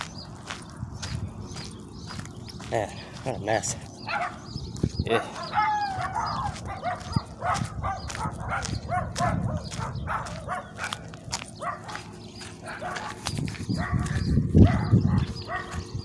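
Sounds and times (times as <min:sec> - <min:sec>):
dogs barking: 0:02.7 - 0:16.0.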